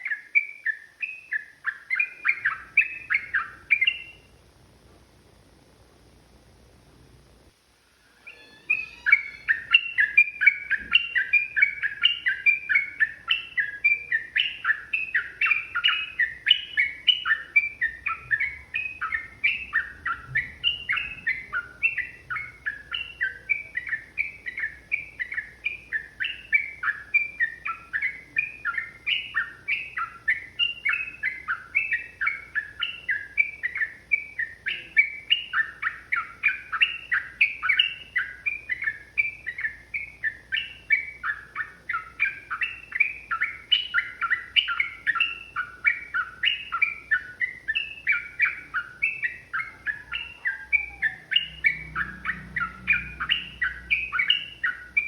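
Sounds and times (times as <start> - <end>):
bird singing quick chattering notes: 8.2 - 55.0.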